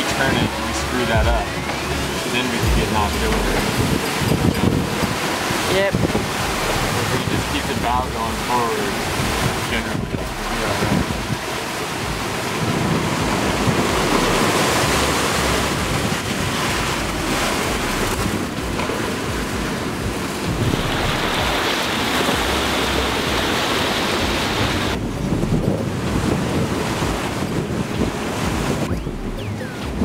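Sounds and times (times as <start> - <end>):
breaking waves: 0.0 - 30.0
wind buffeting microphone: 0.0 - 30.0.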